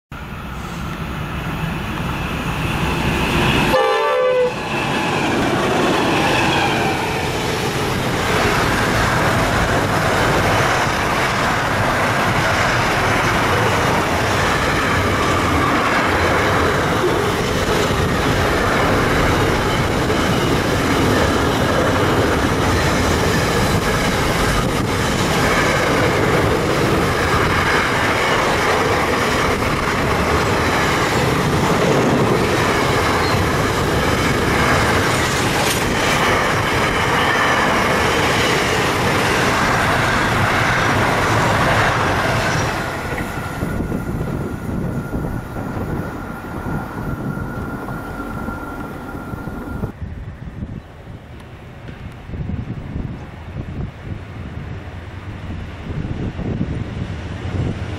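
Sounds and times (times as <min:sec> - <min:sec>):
train wheels on rail: 0:00.1 - 0:57.9.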